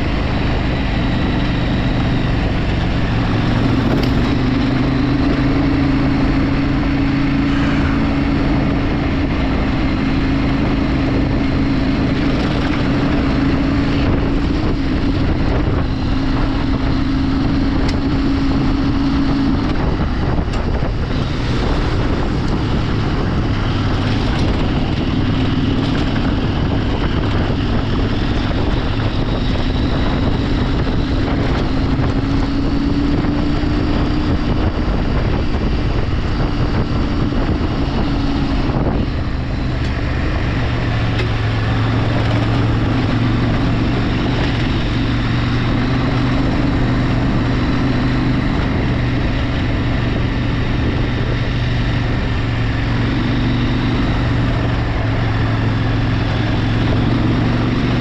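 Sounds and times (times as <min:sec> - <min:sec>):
vehicle engine running: 0:00.0 - 0:58.0
wind noise on microphone: 0:00.0 - 0:58.0.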